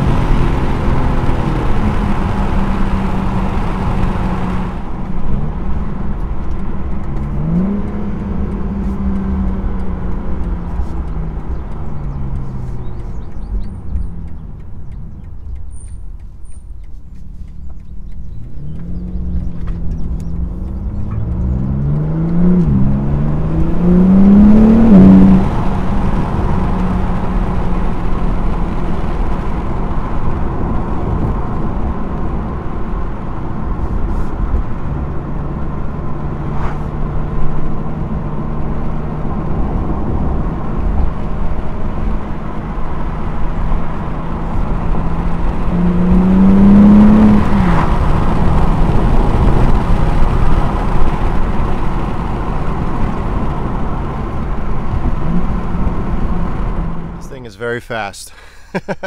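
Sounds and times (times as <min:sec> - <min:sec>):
car engine revving: 0:00.0 - 0:16.3, 0:17.2 - 0:58.2.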